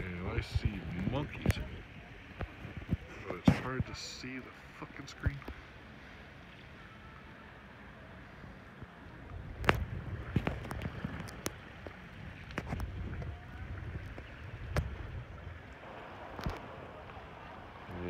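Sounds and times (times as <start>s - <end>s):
wind rumbling on microphone: 0.0s - 4.5s, 8.0s - 18.0s.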